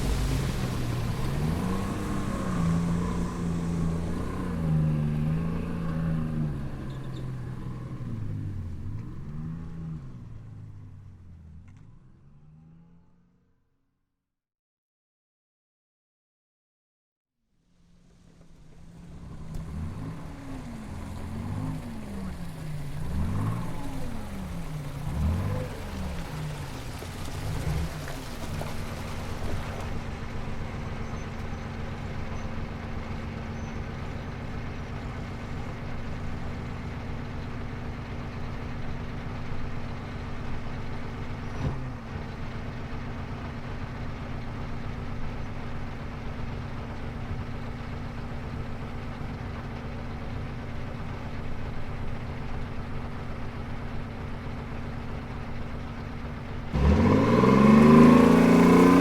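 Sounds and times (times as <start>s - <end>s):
vehicle engine idling and revving: 0.0s - 13.8s, 17.6s - 59.0s.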